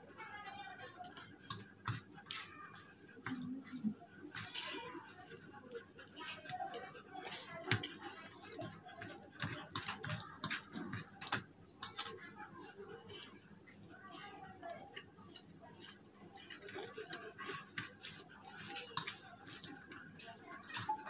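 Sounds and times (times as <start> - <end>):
fingers squelching food on plate: 1.0 - 21.0.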